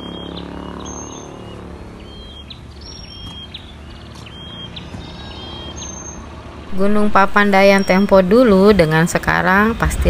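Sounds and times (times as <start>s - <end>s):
birds calling: 0.0s - 10.0s.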